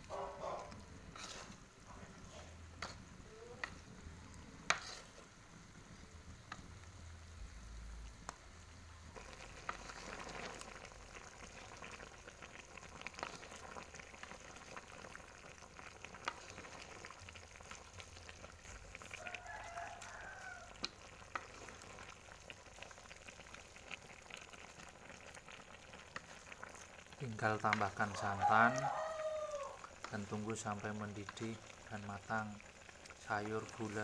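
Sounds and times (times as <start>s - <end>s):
meat sizzling in a pan: 0.0s - 34.0s.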